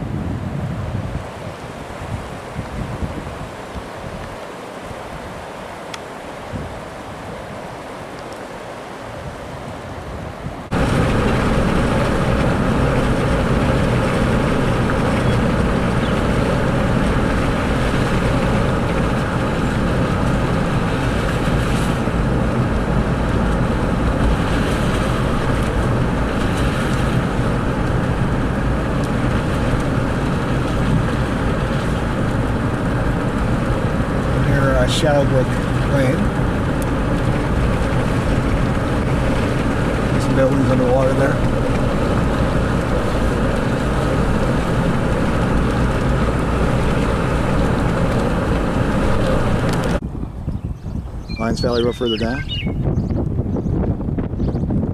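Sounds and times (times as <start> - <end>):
vehicle engine hum and road noise: 0.0 - 54.9
wind: 0.0 - 54.9
rushing floodwater: 1.0 - 50.0.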